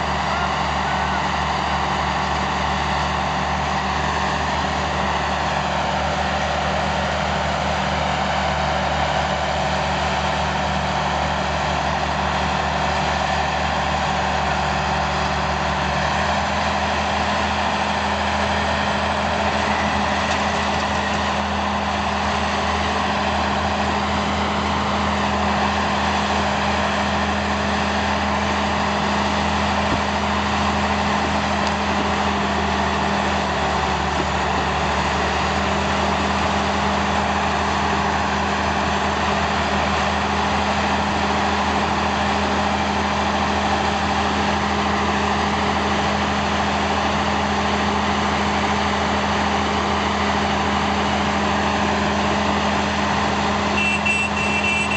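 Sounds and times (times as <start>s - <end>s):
diesel engines running: 0.0s - 54.9s.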